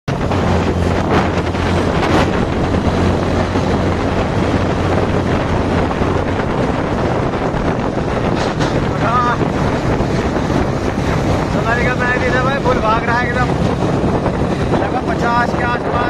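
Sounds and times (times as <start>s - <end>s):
low engine drone: 0.0s - 16.0s
wind buffeting microphone: 0.1s - 16.0s.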